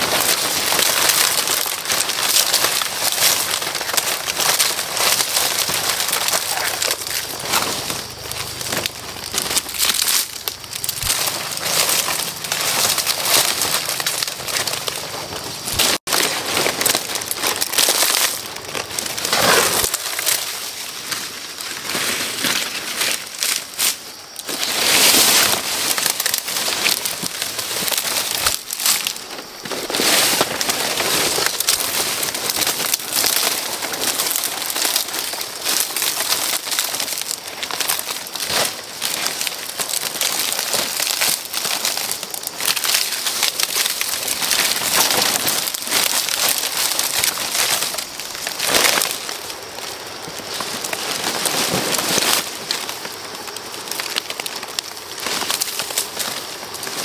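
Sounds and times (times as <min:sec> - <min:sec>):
dry material crackling: 0:00.0 - 0:57.0.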